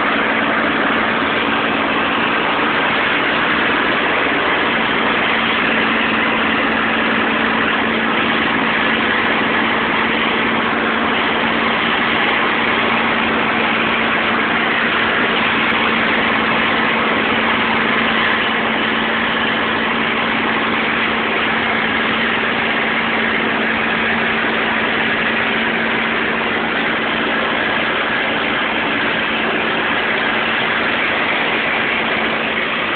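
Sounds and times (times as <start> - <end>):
constant hum: 0.0 - 32.9
propeller plane engine drone: 0.0 - 32.9.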